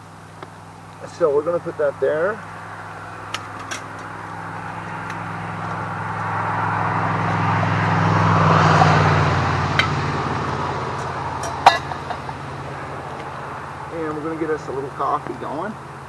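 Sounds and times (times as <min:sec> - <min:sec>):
vehicle passing by: 0:01.0 - 0:16.0.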